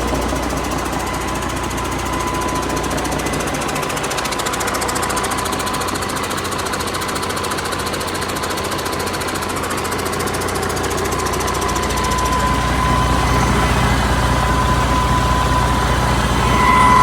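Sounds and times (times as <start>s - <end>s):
diesel engine running: 0.0s - 17.0s
thin steady whine: 0.0s - 17.0s.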